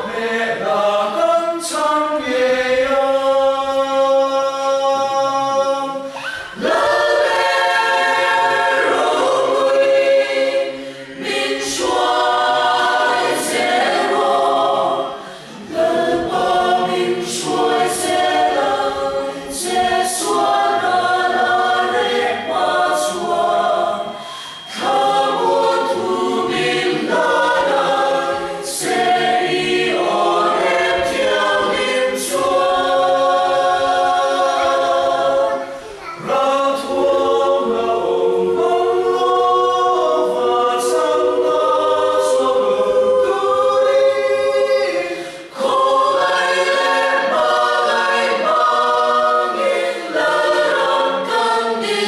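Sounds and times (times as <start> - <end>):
mixed choir singing: 0.0 - 52.0.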